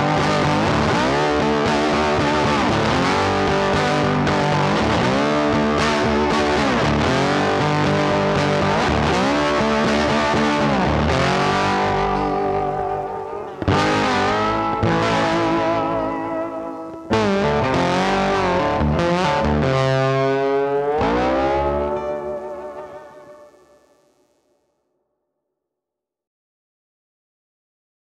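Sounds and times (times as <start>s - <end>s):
distorted electric guitar music: 0.0s - 24.5s.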